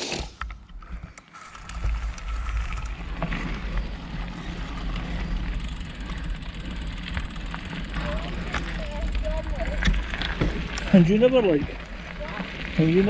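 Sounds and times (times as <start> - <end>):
bike clicks and rattles: 0.0 - 13.0
bike tyres rumbling on dirt: 0.0 - 13.0.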